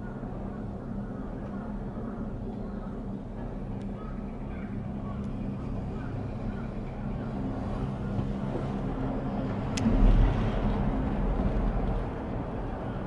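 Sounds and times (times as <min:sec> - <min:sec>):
gondola cabin hum and rumble: 0:00.0 - 0:13.0.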